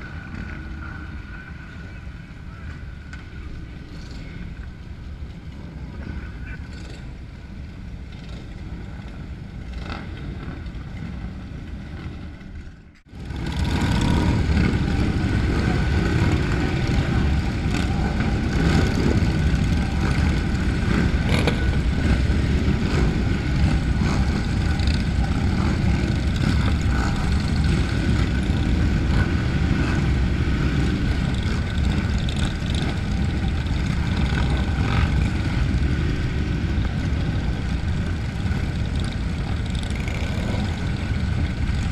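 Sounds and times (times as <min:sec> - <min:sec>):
motorcycle engines rumbling: 0:00.0 - 0:41.9.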